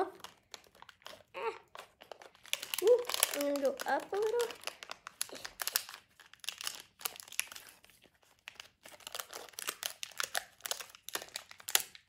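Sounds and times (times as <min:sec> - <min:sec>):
foil packet crinkling: 0:00.0 - 0:12.0.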